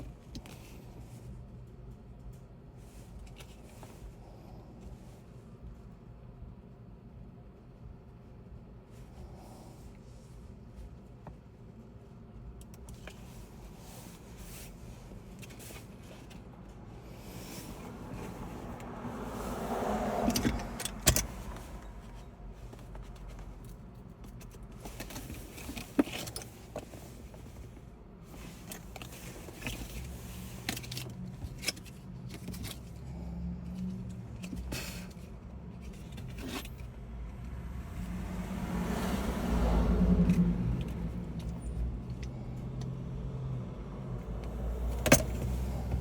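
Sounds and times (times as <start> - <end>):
low steady rumble: 0.0 - 46.0.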